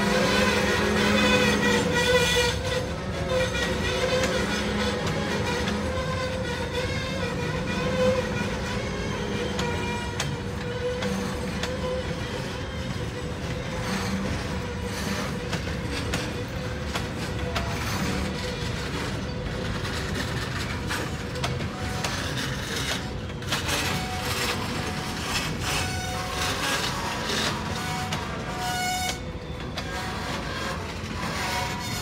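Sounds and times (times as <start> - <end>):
train cars clanking: 0.0 - 32.0
train wheels clicking on track: 0.0 - 32.0.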